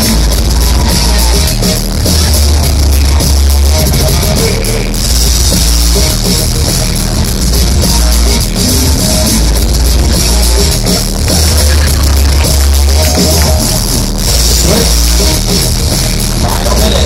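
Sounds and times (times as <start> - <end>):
dance music with heavy bass: 0.0 - 17.0.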